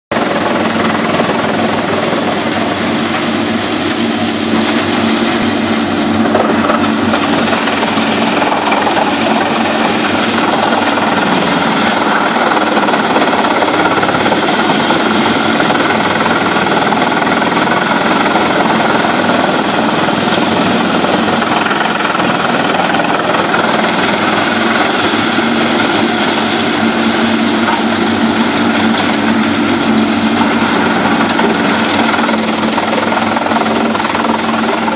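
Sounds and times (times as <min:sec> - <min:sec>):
wood chipper running: 0:00.1 - 0:34.9
steady hum: 0:00.2 - 0:34.9.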